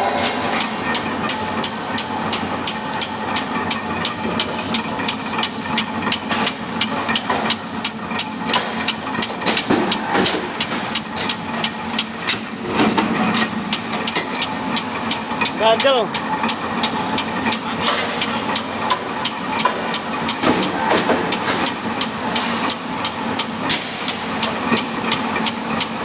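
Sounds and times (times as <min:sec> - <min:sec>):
constant machine hum: 0:00.0 - 0:26.0.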